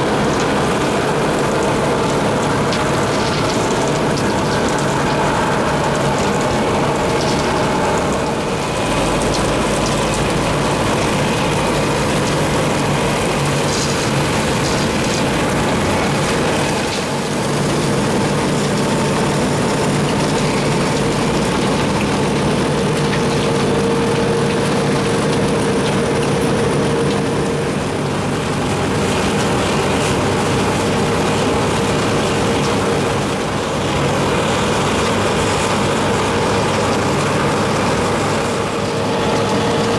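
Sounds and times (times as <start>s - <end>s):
conveyor throwing out millings: 0.0s - 39.9s
diesel engine under load: 0.0s - 39.9s
milling drum grinding asphalt: 0.0s - 39.9s.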